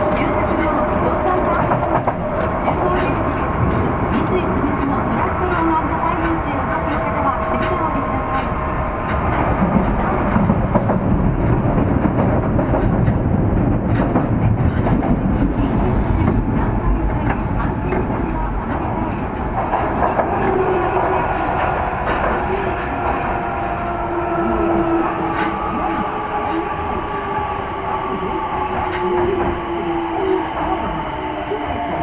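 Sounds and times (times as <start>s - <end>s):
rail joint clicks: 0.0s - 32.0s
subway wheel and rail rumble: 0.0s - 32.0s.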